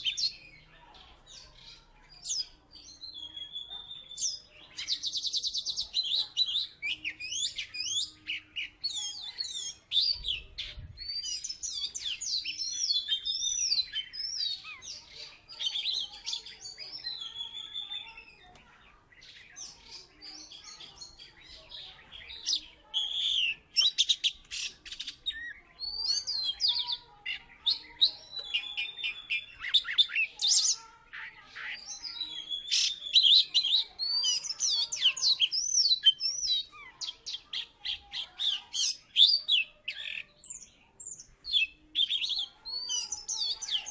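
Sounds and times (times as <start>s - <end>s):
bird singing whistled phrases: 2.2s - 15.0s, 15.6s - 18.4s, 19.2s - 30.8s, 31.6s - 43.9s.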